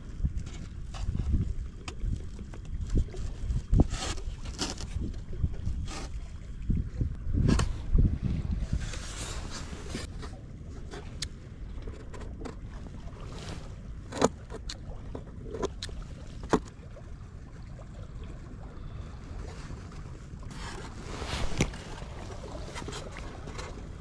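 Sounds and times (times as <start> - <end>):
wind and sea rumble: 0.0 - 24.0.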